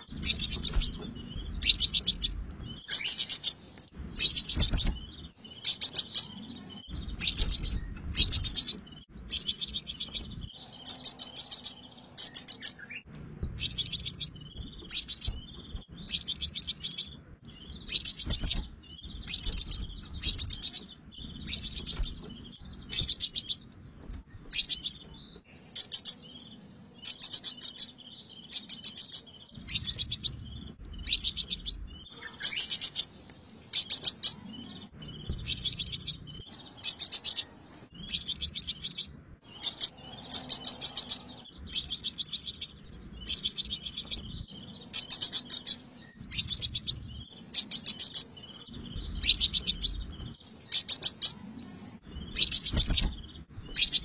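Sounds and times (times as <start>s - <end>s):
bird chirping trills: 0.0s - 54.0s.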